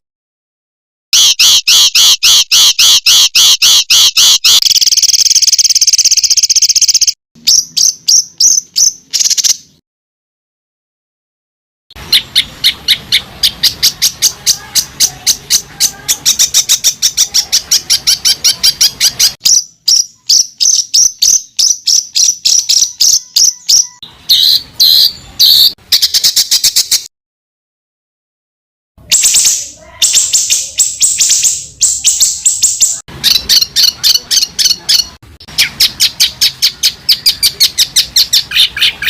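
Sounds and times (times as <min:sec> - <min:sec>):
songbird singing rapid high notes: 0:01.1 - 0:09.8, 0:12.0 - 0:27.1, 0:29.0 - 0:39.0.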